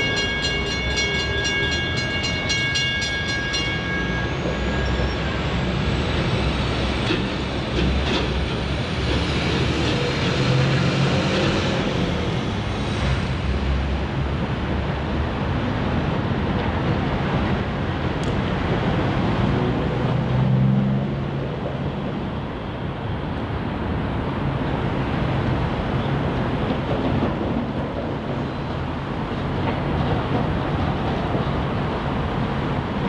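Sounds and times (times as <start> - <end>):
locomotive engine drone: 0.0 - 26.7
moving train noise: 0.0 - 33.0.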